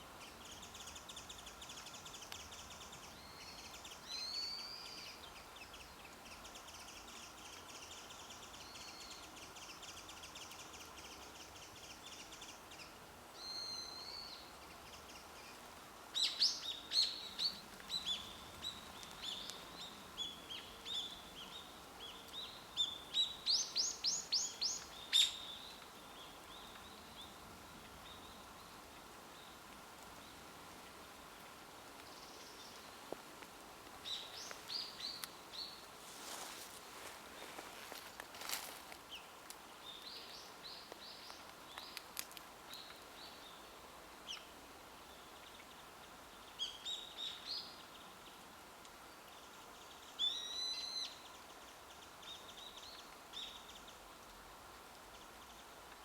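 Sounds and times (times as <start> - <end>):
songbirds singing: 0.0 - 30.6, 34.0 - 54.2
faint outdoor background noise: 0.0 - 56.0.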